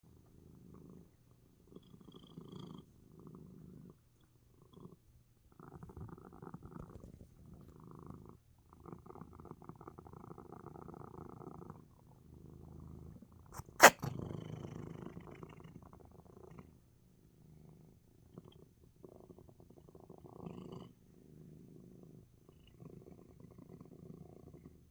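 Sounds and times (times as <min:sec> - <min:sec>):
cat purring: 0:00.1 - 0:24.9.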